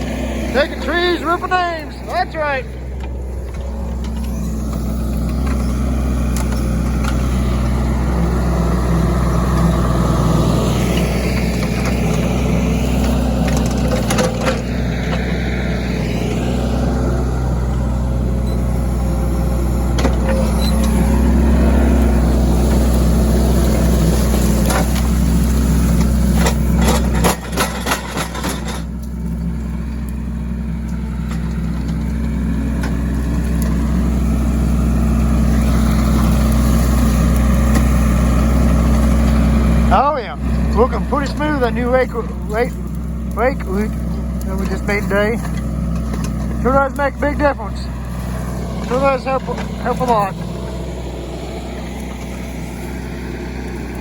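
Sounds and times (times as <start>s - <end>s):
diesel engine running under load: 0.0s - 54.0s
hydraulics whining: 0.0s - 54.0s.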